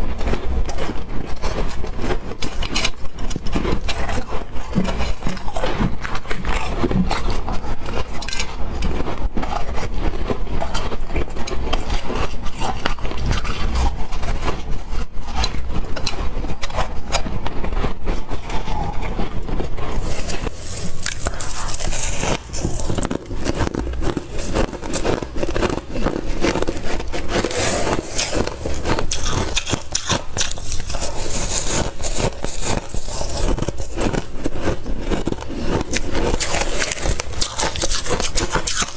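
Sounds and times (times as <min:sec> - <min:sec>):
ice crunching in mouth: 0:00.0 - 0:38.9.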